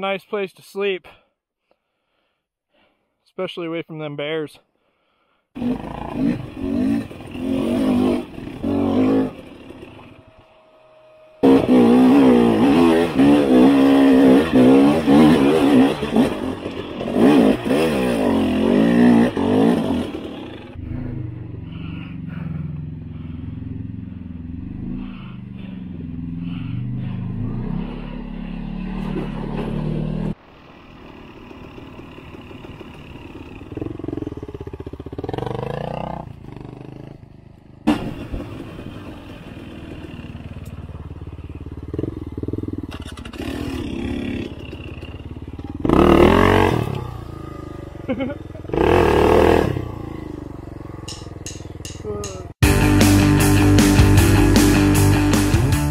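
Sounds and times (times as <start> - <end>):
motorcycle engine revving: 5.5 - 55.9.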